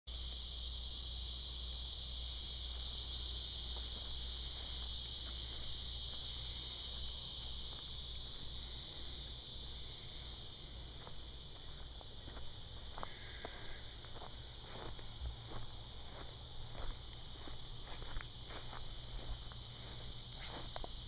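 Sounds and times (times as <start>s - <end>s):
faint low hum: 0.1s - 21.0s
insects trilling: 0.1s - 21.0s.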